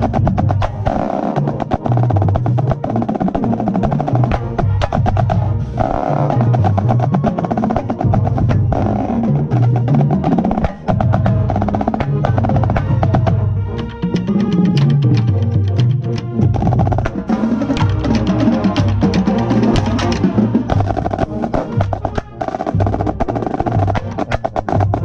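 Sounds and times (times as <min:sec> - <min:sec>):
marching band playing funk: 0:00.0 - 0:25.0
marching snare drum rolls: 0:00.0 - 0:25.0.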